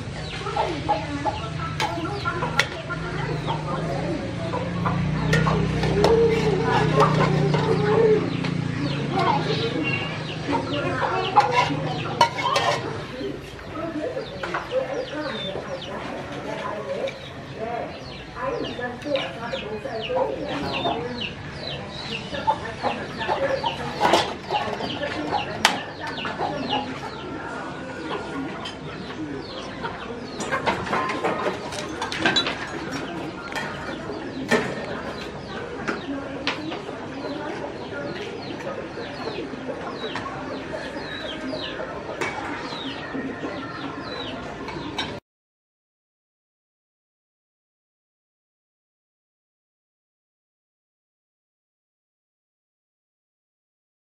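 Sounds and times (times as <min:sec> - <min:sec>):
birds chirping: 0:00.0 - 0:45.2
chickens clucking: 0:00.0 - 0:45.2.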